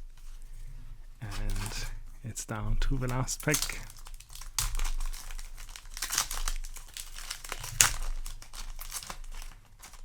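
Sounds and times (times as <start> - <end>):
foil wrapper crinkling and tearing: 1.2 - 2.0, 2.7 - 10.0.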